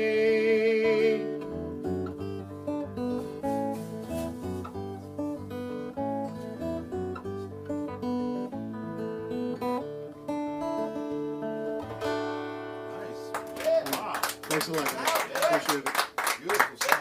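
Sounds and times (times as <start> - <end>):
acoustic guitar picking: 0.0 - 16.2.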